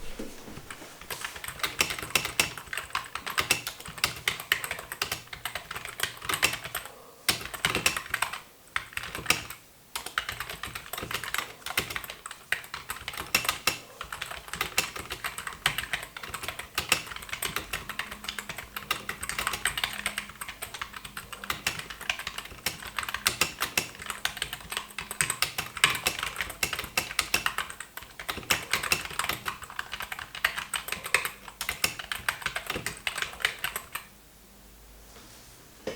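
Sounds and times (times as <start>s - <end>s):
fast typing on keyboard: 1.1s - 34.1s.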